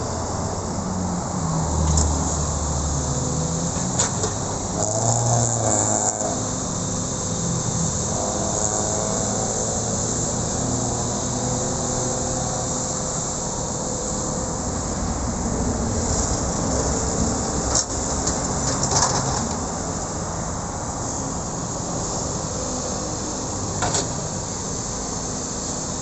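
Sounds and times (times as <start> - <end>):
excavator diesel engine running: 0.0 - 26.0
faint hydraulic whine: 0.0 - 26.0.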